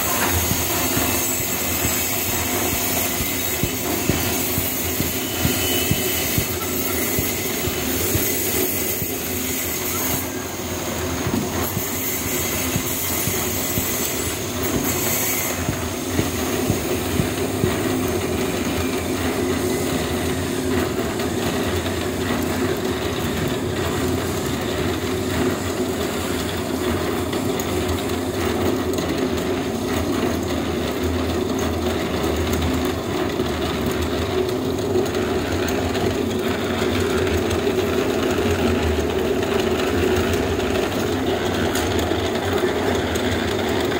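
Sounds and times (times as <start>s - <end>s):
machine droning with rattle: 0.0s - 43.9s.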